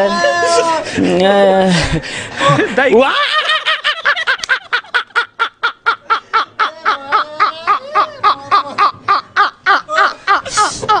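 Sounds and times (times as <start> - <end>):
men laughing hard: 0.0 - 1.0, 2.3 - 11.0.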